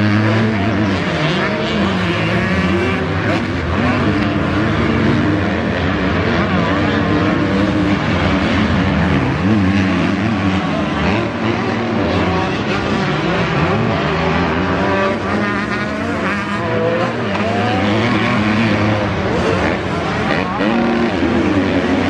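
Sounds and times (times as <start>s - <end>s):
motocross bikes engines revving: 0.0s - 22.0s.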